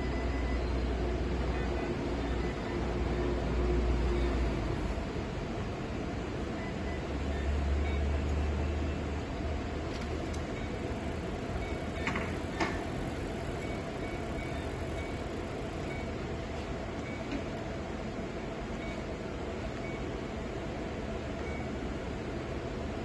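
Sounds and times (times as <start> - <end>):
cooling fans whirring: 0.0 - 23.0.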